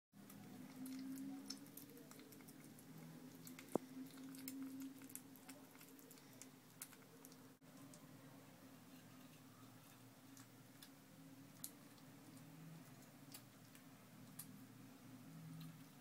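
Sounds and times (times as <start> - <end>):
kitten lapping wet food: 0.2 - 8.2, 9.9 - 16.0
low steady hum: 0.2 - 16.0.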